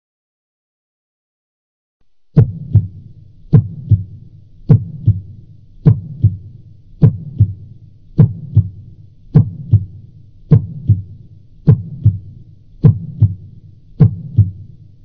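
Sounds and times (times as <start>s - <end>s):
heartbeat thuds: 2.4s - 14.8s.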